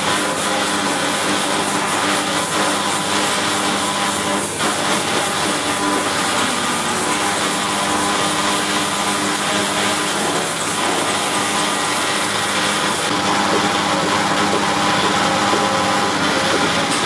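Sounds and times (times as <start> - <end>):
milking machine whirring: 0.0 - 17.0.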